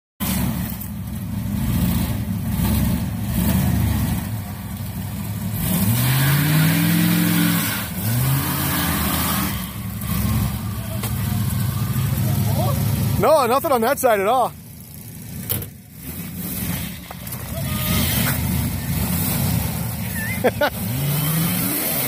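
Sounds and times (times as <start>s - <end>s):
car engine idling and revving: 0.2s - 22.0s.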